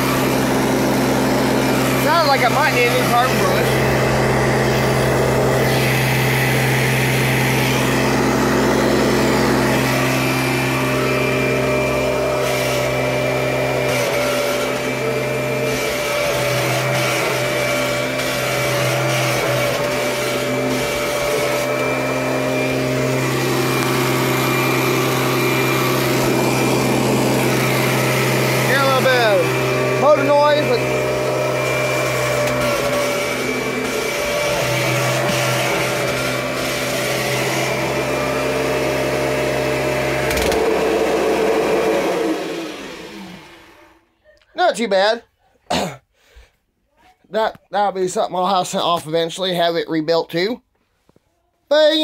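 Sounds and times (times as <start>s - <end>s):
vacuum cleaner motor whine: 0.0s - 44.1s.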